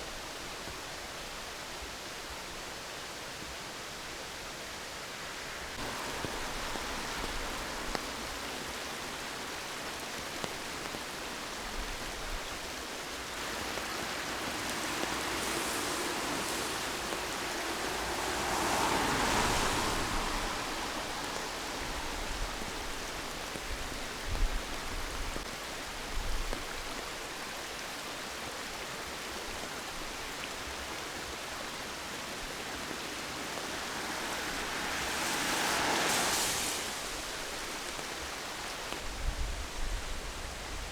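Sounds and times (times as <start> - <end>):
rain and running water: 0.0 - 40.9.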